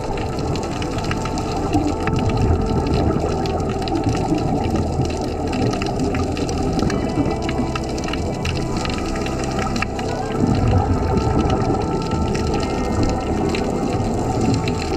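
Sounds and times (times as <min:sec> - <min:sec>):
underwater regulator bubbling: 0:00.0 - 0:14.9.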